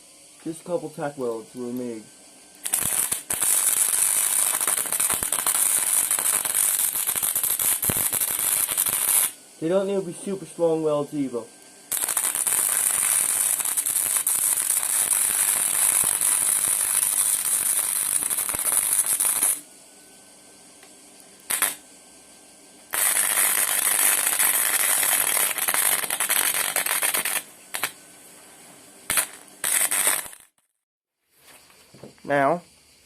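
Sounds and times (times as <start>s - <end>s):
arc welder crackling: 0.3s - 19.7s, 20.5s - 22.0s, 22.7s - 28.2s, 28.9s - 30.6s.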